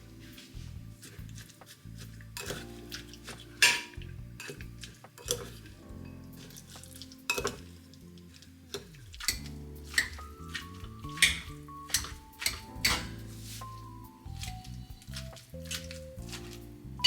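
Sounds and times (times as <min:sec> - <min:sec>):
soft background music: 0:00.0 - 0:17.0
utensils clinking and scraping dishes: 0:00.1 - 0:17.0.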